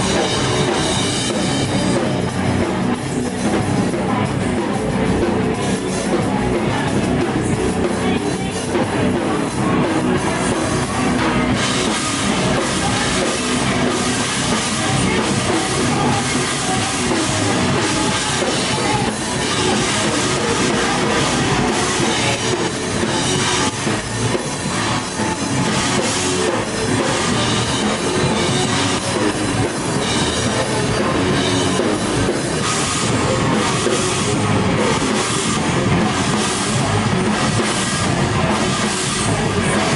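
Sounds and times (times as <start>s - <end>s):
distorted electric guitar: 0.0s - 39.9s
drum kit with cymbals: 0.0s - 39.9s
heavy rock band playing: 0.0s - 39.9s.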